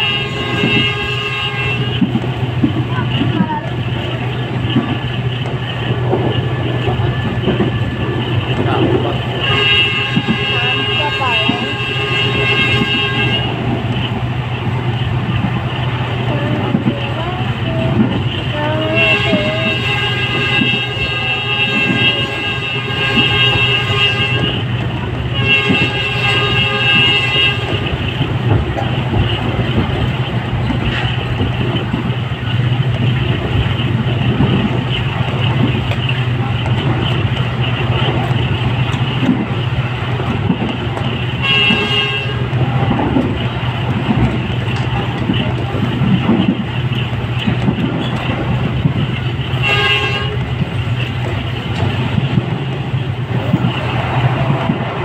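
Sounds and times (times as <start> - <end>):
locomotive horn blasts: 0.0 - 3.3, 4.2 - 15.0, 16.1 - 30.0, 33.0 - 46.9, 47.5 - 55.0
train rumble inside carriage: 0.0 - 55.0.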